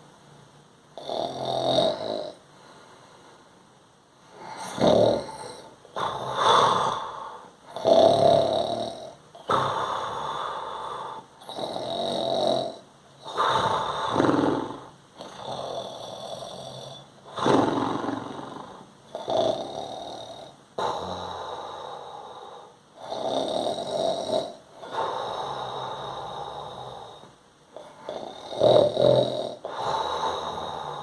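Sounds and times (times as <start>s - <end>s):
man snoring: 1.0s - 2.4s, 4.4s - 31.0s.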